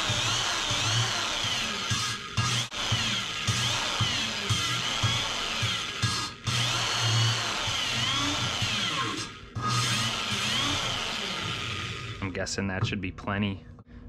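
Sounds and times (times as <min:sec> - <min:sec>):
power drill whining: 0:00.0 - 0:12.3.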